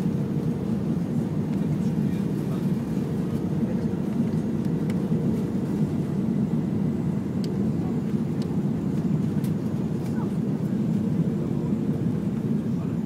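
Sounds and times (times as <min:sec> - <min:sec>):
deep rumble of jet engines: 0:00.0 - 0:13.0.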